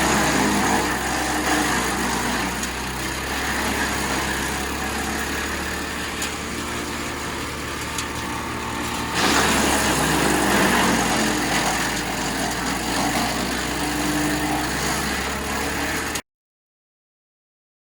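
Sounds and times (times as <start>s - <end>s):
wood chipper engine running: 0.0s - 16.2s.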